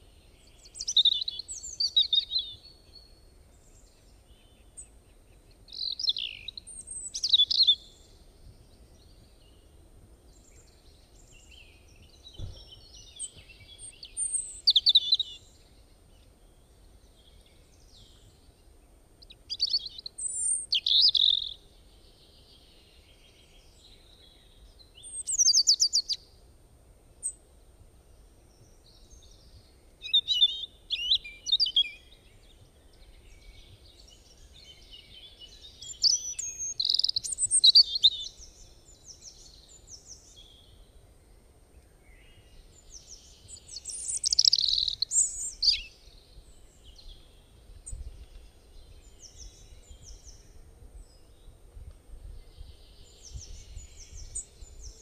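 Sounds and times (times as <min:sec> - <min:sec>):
songbirds singing: 0:00.0 - 0:26.5, 0:27.1 - 0:55.0.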